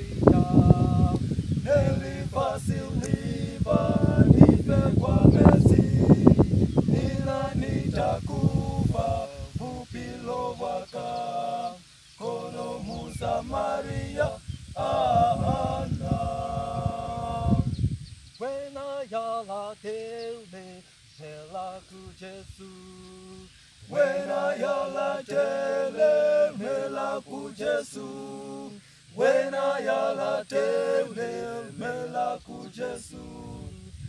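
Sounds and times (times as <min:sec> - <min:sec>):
male vocal group singing a cappella: 0:00.0 - 0:34.0.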